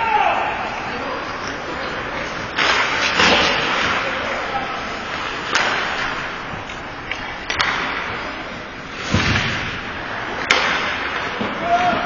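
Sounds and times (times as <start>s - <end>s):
hockey sticks and puck clacking: 1.4s - 12.0s
skates scraping ice: 1.4s - 12.0s.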